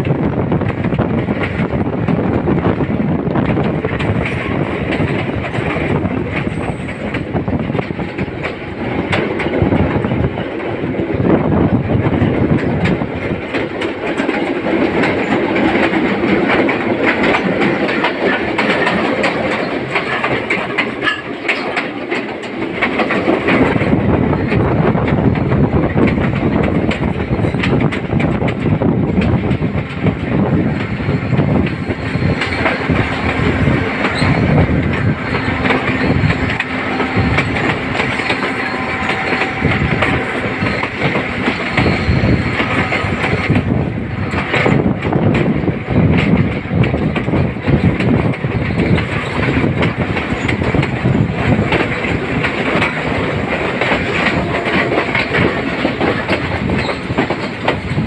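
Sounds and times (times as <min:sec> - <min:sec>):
clickety-clack of rail joints: 0:00.0 - 0:58.0
train wheels rumbling on rails: 0:00.0 - 0:58.0.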